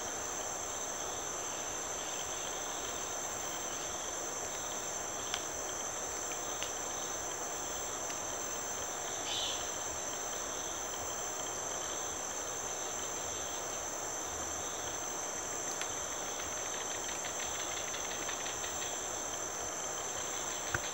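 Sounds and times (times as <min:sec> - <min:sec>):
chorus of insects: 0:00.0 - 0:20.9.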